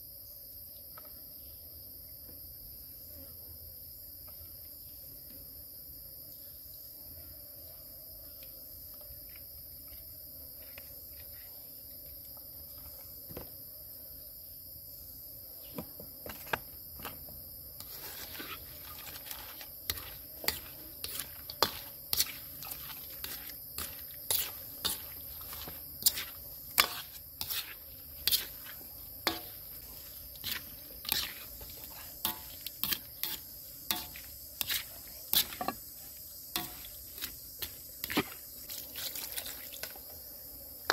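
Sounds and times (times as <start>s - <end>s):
crickets buzzing: 0.0s - 40.9s.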